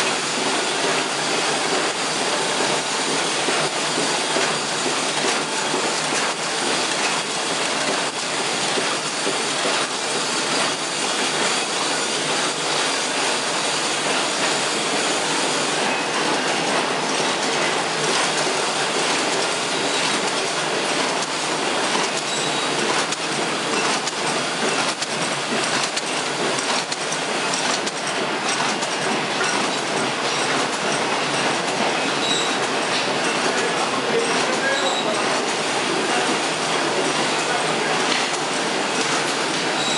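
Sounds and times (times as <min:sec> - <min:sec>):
sewing machine running: 0:00.0 - 0:32.8.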